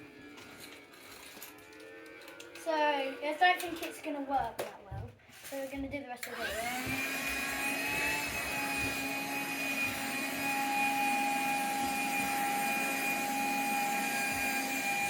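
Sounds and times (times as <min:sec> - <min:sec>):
handheld vacuum cleaner whining: 0:00.0 - 0:04.0, 0:05.6 - 0:15.0.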